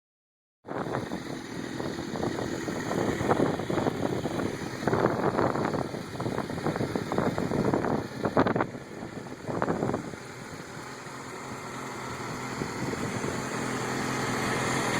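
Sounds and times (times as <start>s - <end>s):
motorcycle engine rough exhaust note: 0.7s - 14.9s.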